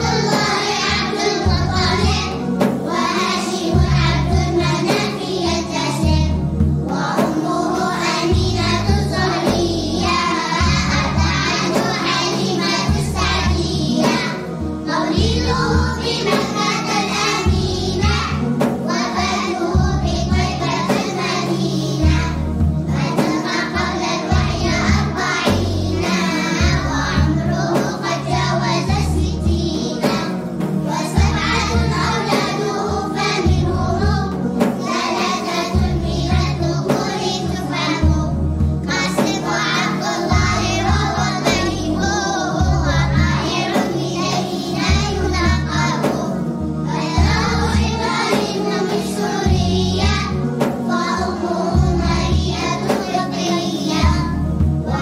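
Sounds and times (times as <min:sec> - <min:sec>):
backing track with low beat: 0:00.0 - 0:55.0
children singing together: 0:00.0 - 0:55.0.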